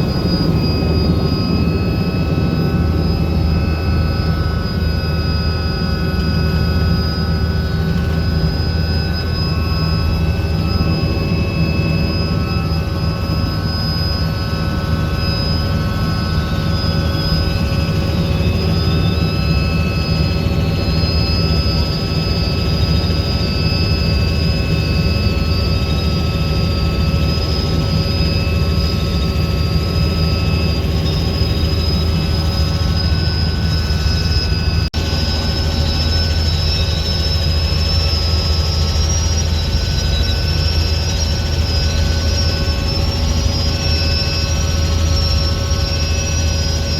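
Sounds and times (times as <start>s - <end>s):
helicopter rotor and engine rumble: 0.0s - 46.9s
steady whining tones: 0.0s - 46.9s.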